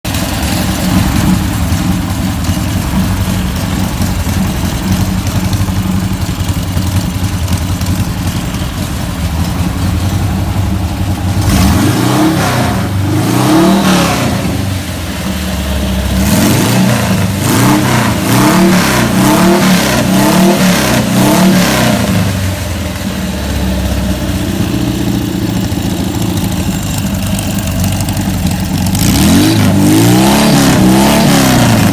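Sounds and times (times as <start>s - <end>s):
car engine idling and revving: 0.1s - 31.9s.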